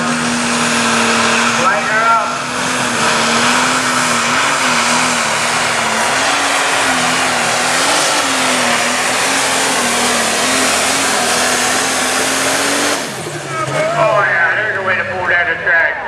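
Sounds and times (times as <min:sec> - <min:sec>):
loud rushing exhaust: 0:00.0 - 0:15.8
diesel tractor engine at full throttle: 0:00.0 - 0:16.0.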